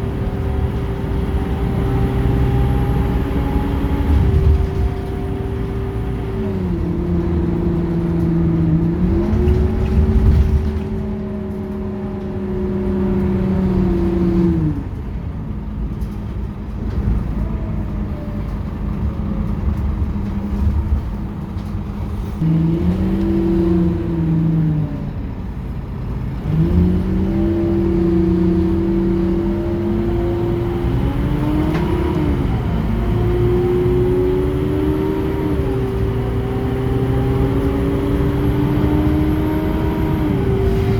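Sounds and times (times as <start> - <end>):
bus engine pulling: 0.0 - 40.9
drivetrain whine: 0.0 - 40.9.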